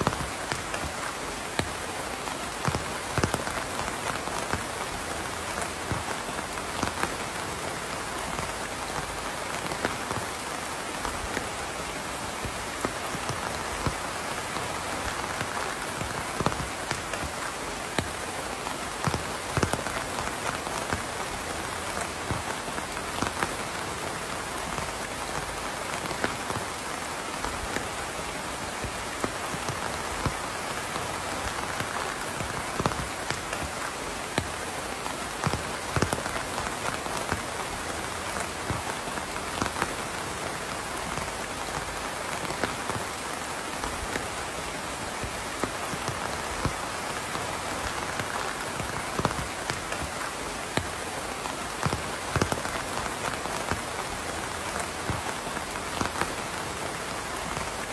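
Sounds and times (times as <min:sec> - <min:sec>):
raindrops ticking: 0:00.0 - 0:57.9
steady rain hissing: 0:00.0 - 0:57.9.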